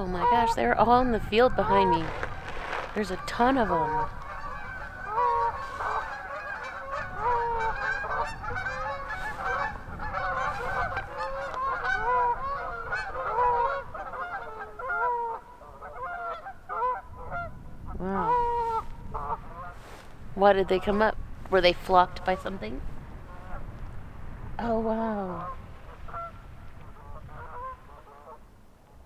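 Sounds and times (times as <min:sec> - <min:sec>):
geese honking: 0:00.0 - 0:23.7, 0:25.3 - 0:28.4.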